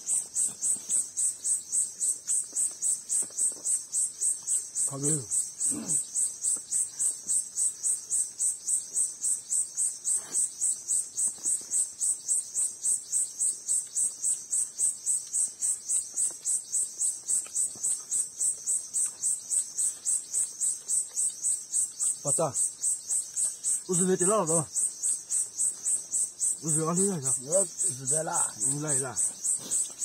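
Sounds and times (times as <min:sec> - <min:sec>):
insect chirping: 0:00.0 - 0:30.0.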